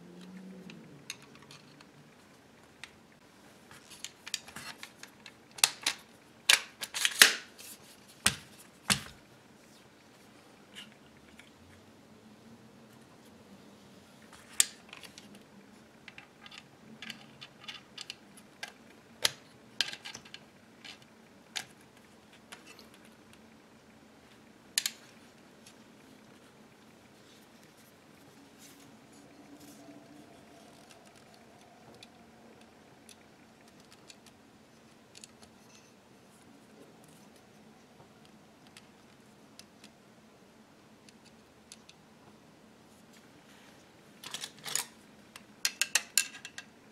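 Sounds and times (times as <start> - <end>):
low steady hiss: 0.0 - 46.9.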